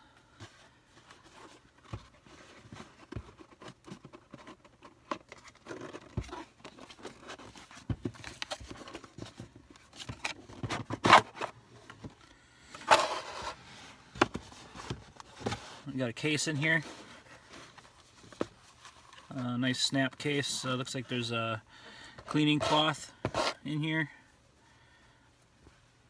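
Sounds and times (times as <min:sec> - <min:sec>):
paperboard box handled and opened: 0:00.4 - 0:21.2, 0:22.2 - 0:23.9.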